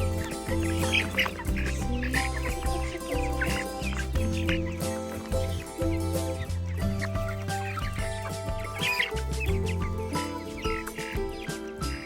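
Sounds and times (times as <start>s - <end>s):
background music with bass line: 0.0s - 12.0s
poultry calls: 0.0s - 12.0s.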